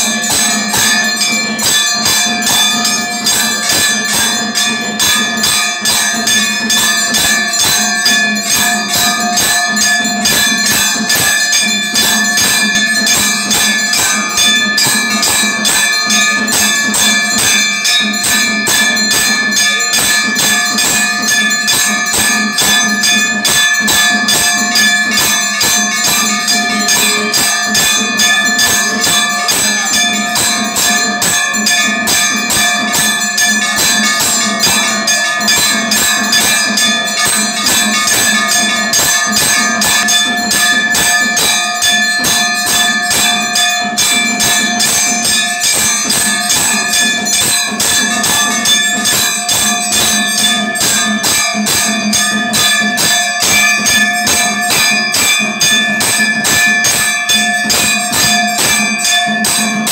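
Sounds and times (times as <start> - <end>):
temple bells ringing rapidly: 0.0 - 59.9.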